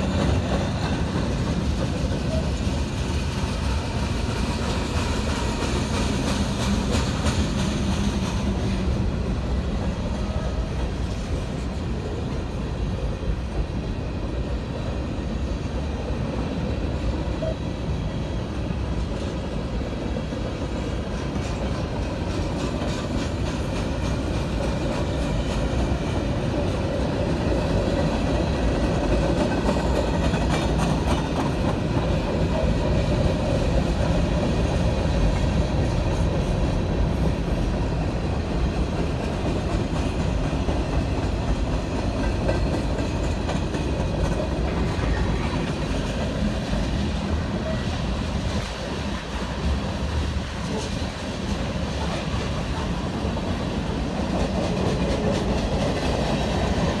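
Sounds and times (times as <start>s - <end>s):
train wheels on rail: 0.0s - 57.0s.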